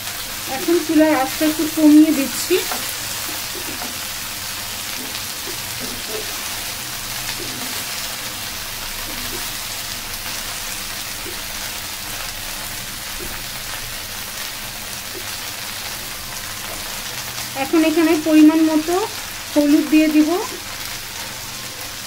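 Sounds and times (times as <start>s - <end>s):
okra sizzling in hot oil: 0.0s - 22.0s.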